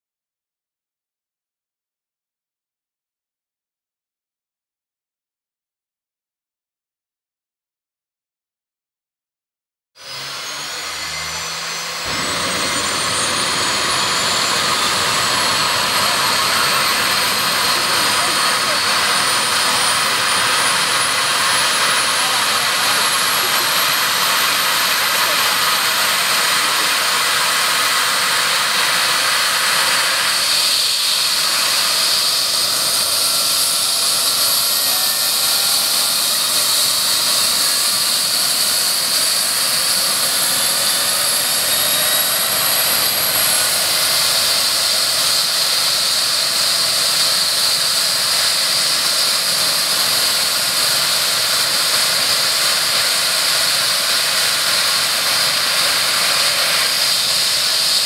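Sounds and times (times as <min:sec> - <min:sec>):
helicopter turbine whine: 0:10.0 - 0:58.0.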